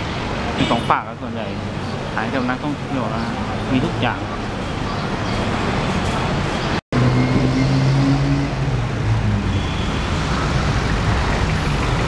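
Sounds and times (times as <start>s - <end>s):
car engines in street traffic: 0.0s - 12.0s.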